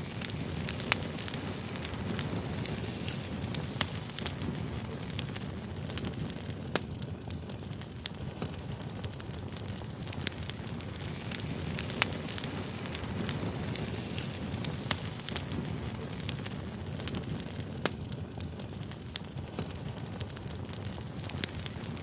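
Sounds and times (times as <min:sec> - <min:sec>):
logs crackling and popping: 0:00.0 - 0:22.0
low rush of flame: 0:00.0 - 0:22.0.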